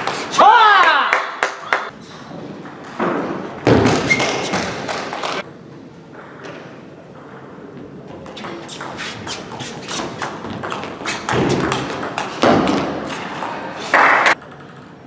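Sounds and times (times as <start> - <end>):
low hum of large hall: 0.0 - 15.0.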